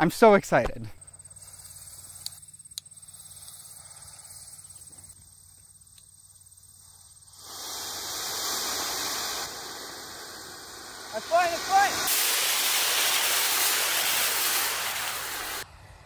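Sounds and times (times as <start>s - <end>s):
rocket motors hissing exhaust: 1.0s - 16.0s.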